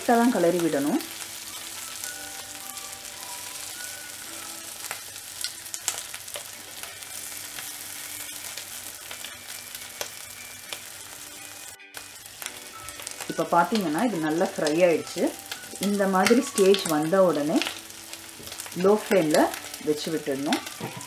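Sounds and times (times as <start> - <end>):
fish frying in oil: 0.0 - 21.0.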